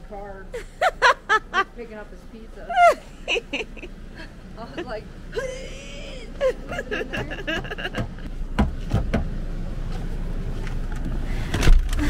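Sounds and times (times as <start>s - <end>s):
car rumble: 0.0s - 12.0s.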